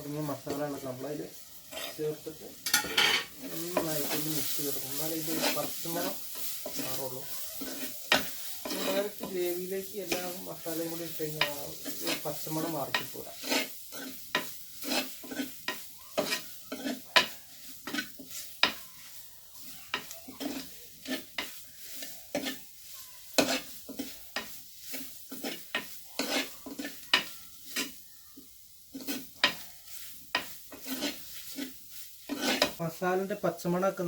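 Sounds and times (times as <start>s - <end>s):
spatula scraping a pan: 0.0s - 33.4s
paste sizzling in oil: 0.0s - 34.0s.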